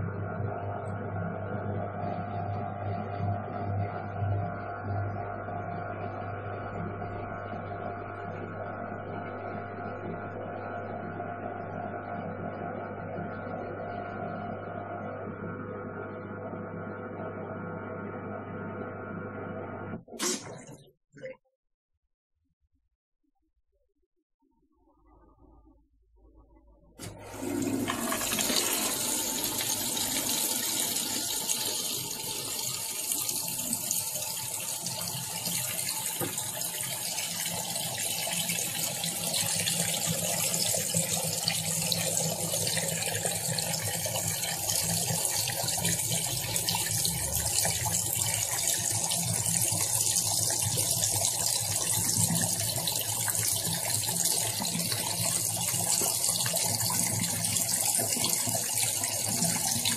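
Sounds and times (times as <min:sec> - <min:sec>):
washing machine motor hum: 0:00.0 - 0:20.8, 0:27.0 - 0:59.9.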